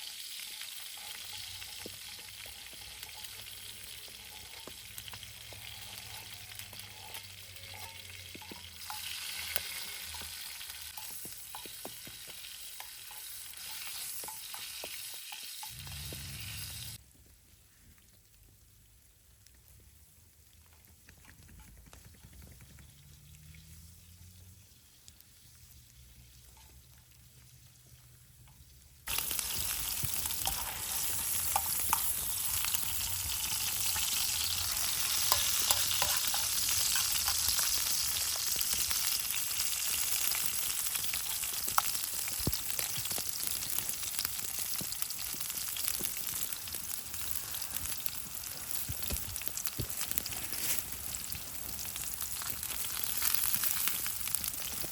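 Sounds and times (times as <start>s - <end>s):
food sizzling in a pan: 0.0s - 17.0s, 23.0s - 54.9s.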